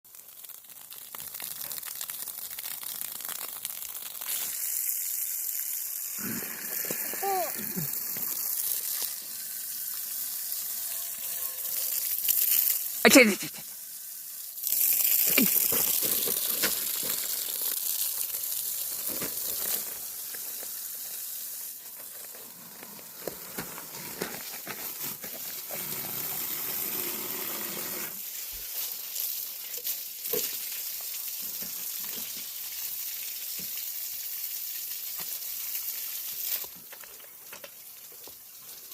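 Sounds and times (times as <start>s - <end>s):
hose water spraying: 0.1s - 38.9s.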